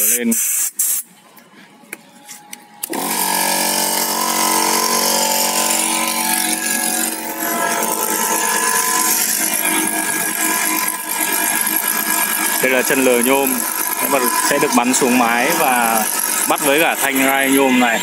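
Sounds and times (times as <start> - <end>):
electric power tool running: 2.8 - 18.0.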